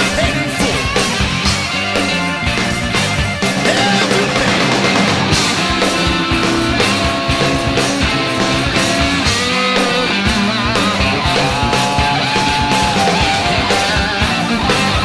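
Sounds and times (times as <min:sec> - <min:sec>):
bass: 0:00.0 - 0:15.0
electric guitar: 0:00.0 - 0:15.0
steady drum beat: 0:00.0 - 0:15.0.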